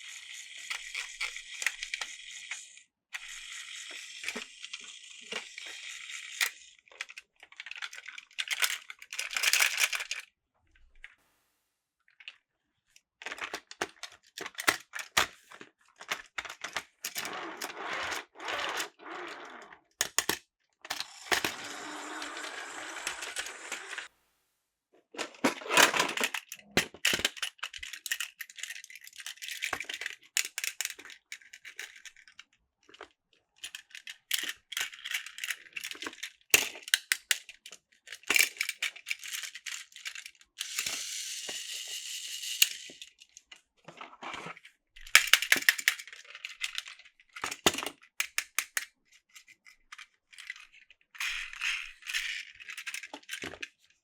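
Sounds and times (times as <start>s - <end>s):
plastic toy train parts clicking: 0.0s - 10.3s, 13.2s - 18.8s, 20.0s - 24.1s, 25.2s - 43.6s, 44.6s - 54.0s.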